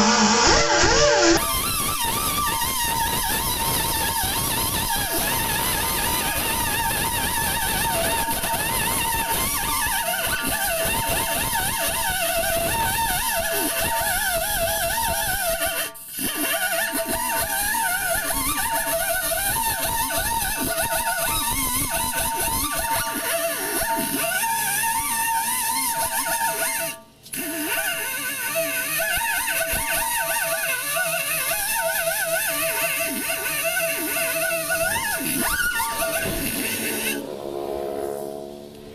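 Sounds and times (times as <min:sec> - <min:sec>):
rotary buffer grinding rubber: 0:00.0 - 0:38.9.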